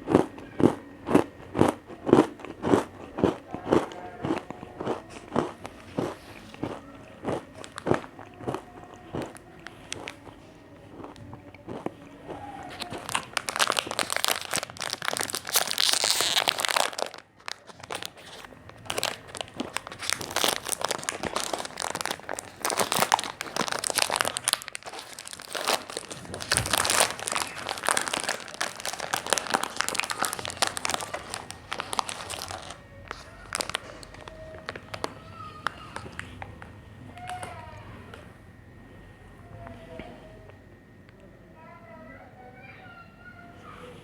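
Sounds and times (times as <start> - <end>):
biscuit wrappers crinkling: 0.0 - 37.6
biscuits being crunched: 0.0 - 37.6.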